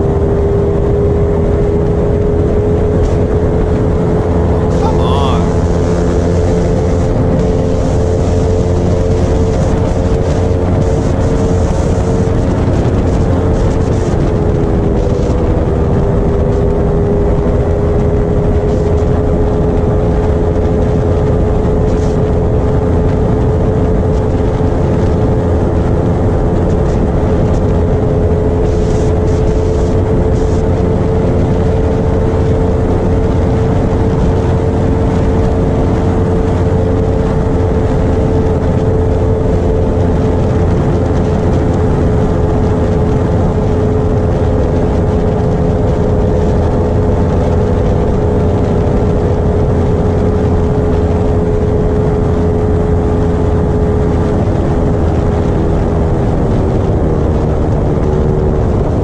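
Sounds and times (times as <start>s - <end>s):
motorcycle engine at high revs: 0.0s - 59.0s
wind rush on microphone: 0.0s - 59.0s.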